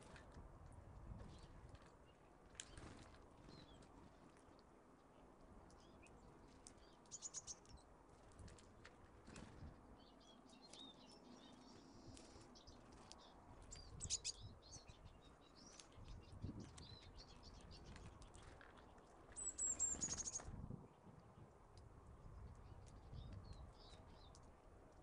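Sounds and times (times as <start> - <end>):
garden songbirds chirping: 1.2 - 4.2, 5.0 - 8.4, 9.3 - 21.1, 22.4 - 25.0.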